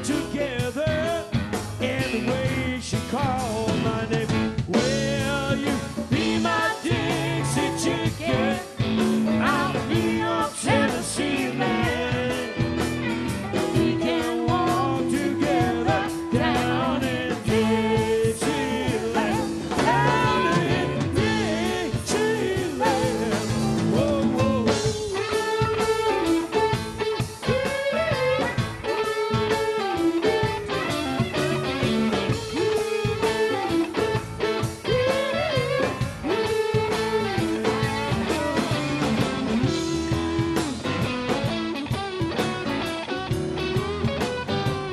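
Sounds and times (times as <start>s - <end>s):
live rock band playing blues: 0.0s - 44.9s
electric guitar lead bends: 3.6s - 44.9s.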